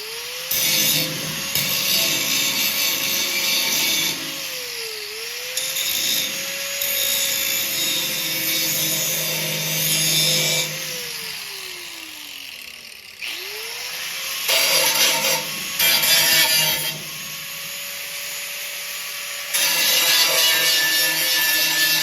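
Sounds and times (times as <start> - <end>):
power grinder grinding steel: 0.0 - 22.0.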